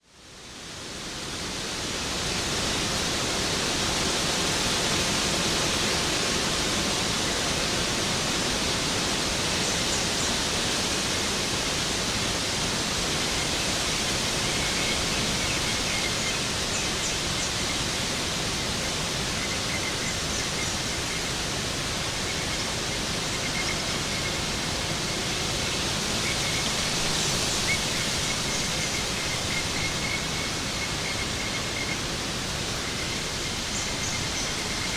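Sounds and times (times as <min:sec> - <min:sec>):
waterfall rushing: 0:00.7 - 0:34.9.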